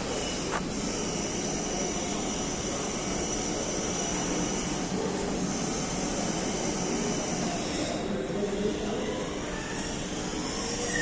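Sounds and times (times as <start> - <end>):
shopping mall background hum: 0.0 - 11.0.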